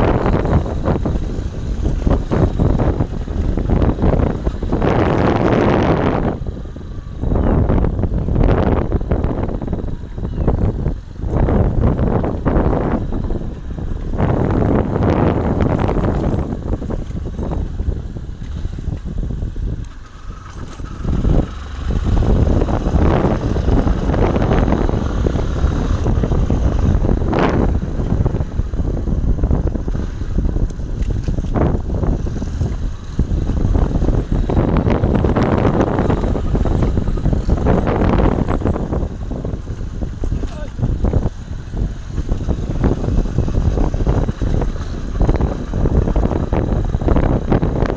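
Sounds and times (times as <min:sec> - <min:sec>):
motorcycle engine rumbling: 0:00.0 - 0:47.9
wind buffeting microphone: 0:00.0 - 0:47.9.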